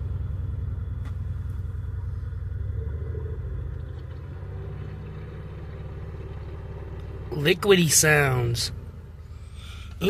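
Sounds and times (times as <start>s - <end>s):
car engine pulsing rumble: 0.0s - 10.0s.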